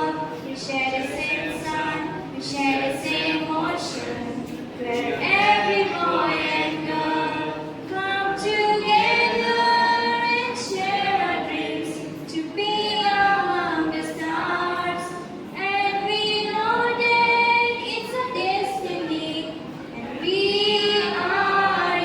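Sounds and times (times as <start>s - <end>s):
children singing without instruments: 0.0s - 22.0s.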